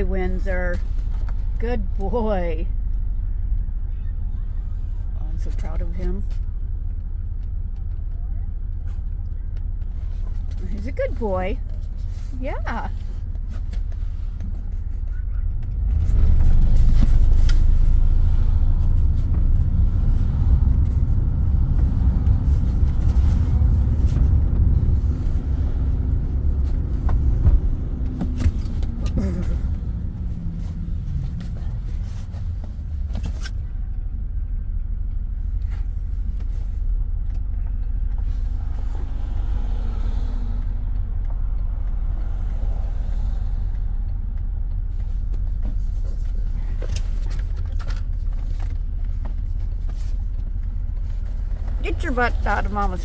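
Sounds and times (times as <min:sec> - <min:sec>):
road and wind rumble in car: 0:00.0 - 0:53.0.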